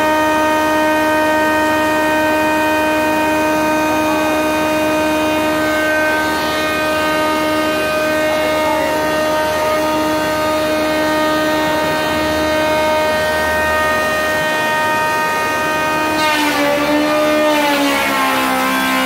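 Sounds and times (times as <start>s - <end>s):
cutter cutting a board: 0.0s - 19.0s
spindle moulder whine: 0.0s - 19.0s.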